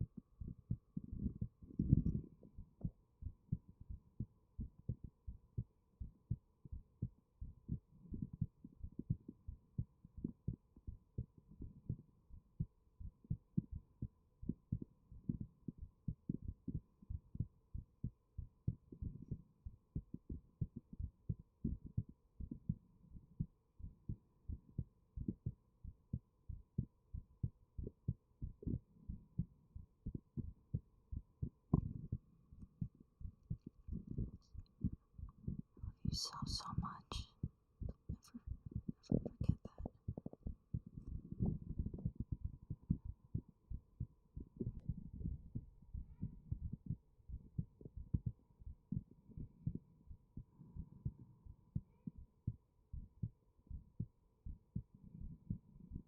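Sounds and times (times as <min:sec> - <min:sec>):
heartbeat: 0:00.0 - 0:56.0.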